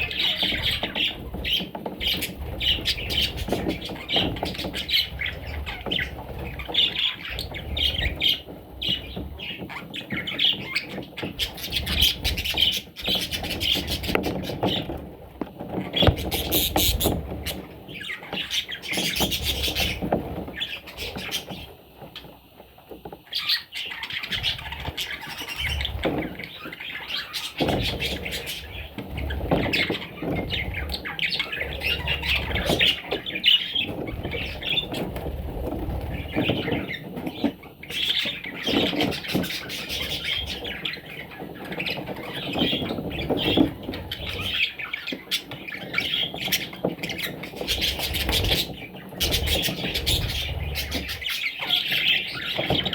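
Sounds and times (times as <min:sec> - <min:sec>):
parrots chattering and squawking: 0:00.0 - 0:15.0, 0:15.6 - 0:22.3, 0:23.2 - 0:35.1, 0:35.7 - 0:52.9.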